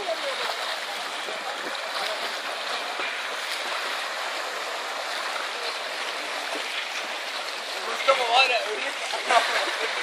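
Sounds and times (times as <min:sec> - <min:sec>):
sea water splashing beside boat: 0:00.0 - 0:10.0.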